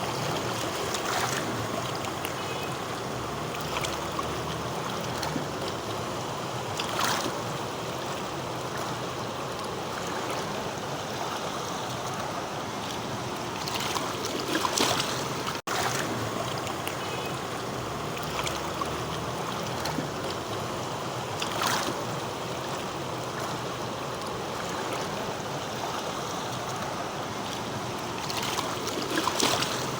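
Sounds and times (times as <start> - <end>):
mountain river water rushing: 0.0 - 29.9
water splashes: 0.0 - 29.9.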